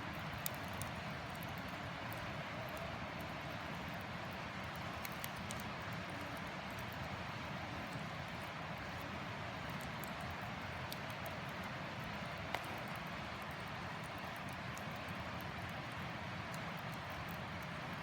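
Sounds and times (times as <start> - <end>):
campfire hissing and crackling: 0.0 - 18.0.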